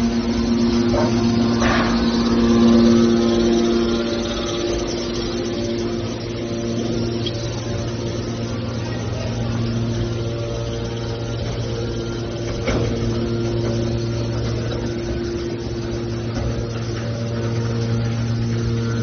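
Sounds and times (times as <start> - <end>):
hydraulic power unit humming: 0.0 - 19.0.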